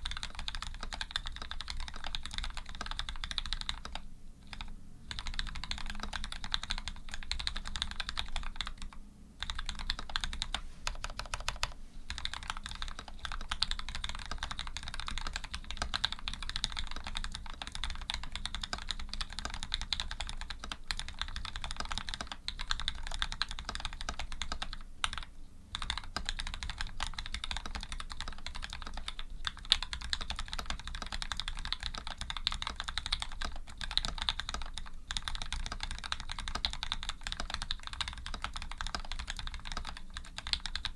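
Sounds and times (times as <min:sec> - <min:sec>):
typing on mechanical keyboard: 0:00.0 - 0:40.9.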